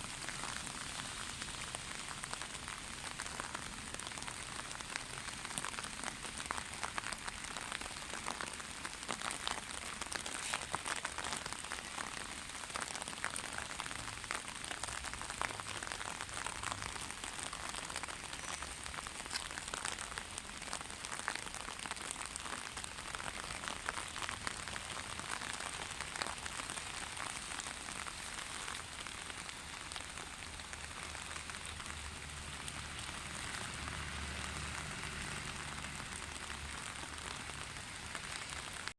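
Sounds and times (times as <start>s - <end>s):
rain pattering on hard surfaces: 0.0s - 38.9s.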